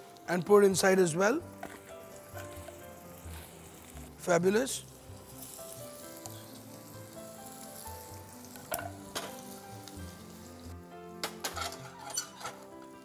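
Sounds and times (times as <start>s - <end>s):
aromatics sizzling in a pan: 0.0s - 13.0s.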